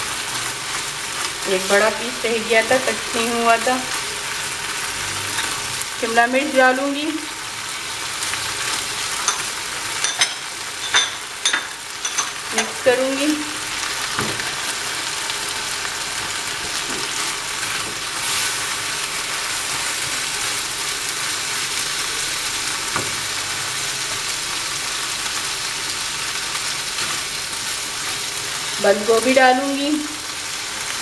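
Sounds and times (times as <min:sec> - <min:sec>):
food sizzling in a frying pan: 0:00.0 - 0:31.0.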